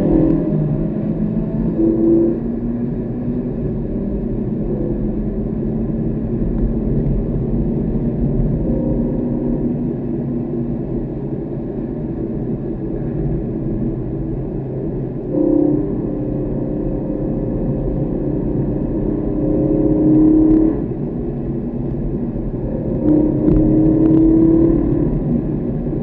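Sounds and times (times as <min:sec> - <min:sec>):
car interior road drone: 0:00.0 - 0:26.0.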